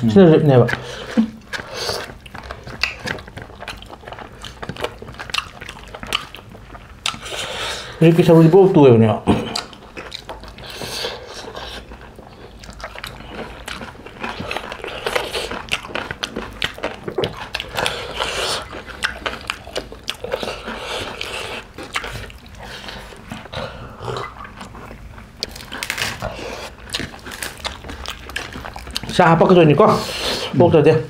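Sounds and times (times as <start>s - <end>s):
people chewing and eating: 0.0s - 30.9s.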